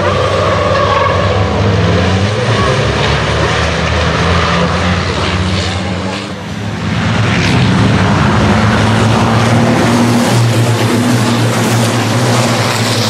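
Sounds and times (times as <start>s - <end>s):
truck diesel engines droning: 0.0s - 13.0s.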